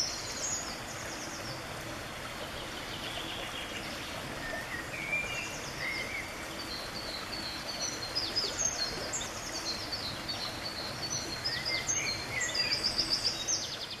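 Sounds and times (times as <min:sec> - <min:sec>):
stream running: 0:00.0 - 0:14.0.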